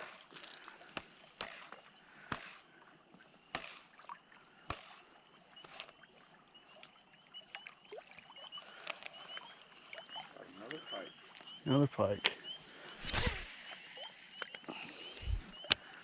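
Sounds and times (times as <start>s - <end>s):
faint water noise: 0.0s - 16.0s.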